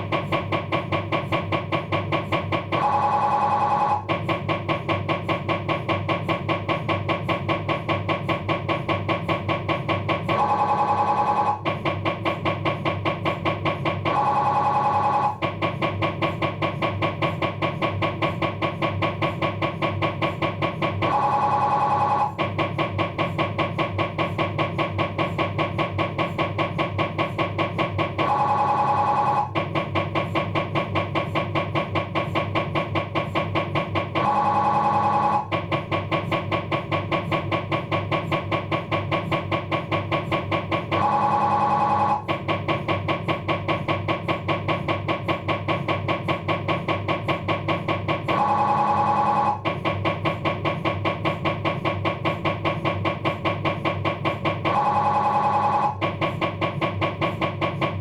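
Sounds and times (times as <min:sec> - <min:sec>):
mri scanner loud buzzing tone: 0:00.0 - 0:58.0
mri scanner rapid knocking: 0:00.0 - 0:58.0.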